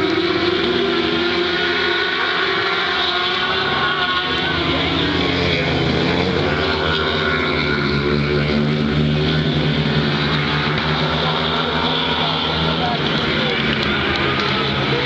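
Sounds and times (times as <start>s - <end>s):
racing motorcycle engines: 0.0s - 15.0s.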